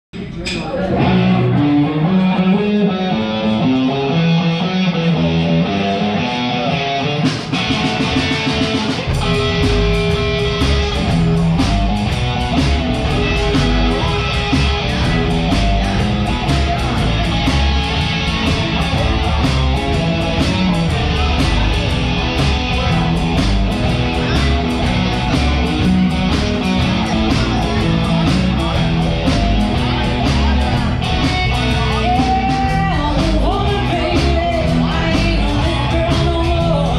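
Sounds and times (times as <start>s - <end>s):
bass guitar: 0.2s - 36.9s
electric guitar: 0.6s - 36.9s
drums with cymbals: 7.2s - 36.9s.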